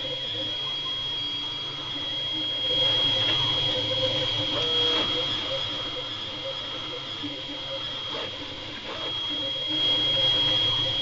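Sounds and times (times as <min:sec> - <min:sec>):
printer high-pitched whine: 0:00.0 - 0:11.0
stepper motor tones: 0:00.0 - 0:11.0.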